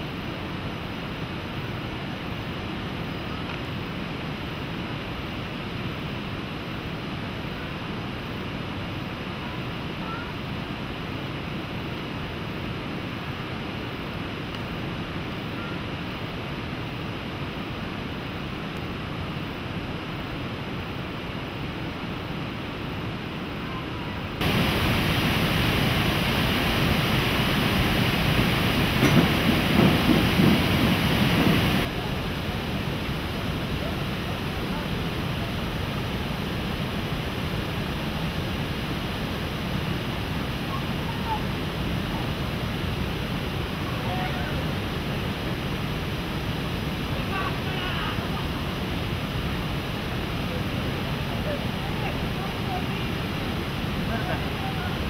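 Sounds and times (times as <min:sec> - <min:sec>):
distant waterfall rushing: 0:00.0 - 0:55.0
stream rushing over boulders: 0:00.0 - 0:55.0.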